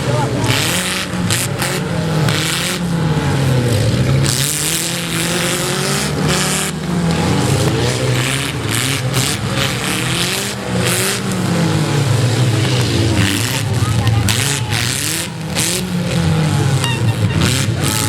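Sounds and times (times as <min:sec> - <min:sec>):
bursts of harsh noise: 0:00.0 - 0:18.0
car engines revving unevenly: 0:00.0 - 0:18.0.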